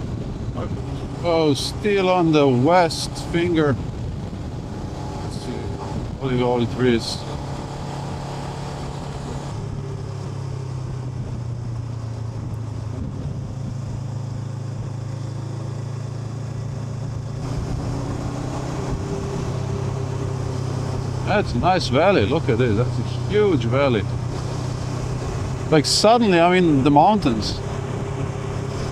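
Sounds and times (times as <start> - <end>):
motorcycle engine while riding: 0.0 - 28.9.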